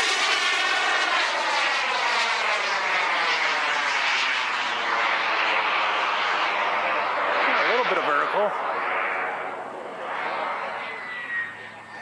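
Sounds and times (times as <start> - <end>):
jet turbine rush and whine: 0.0 - 12.0.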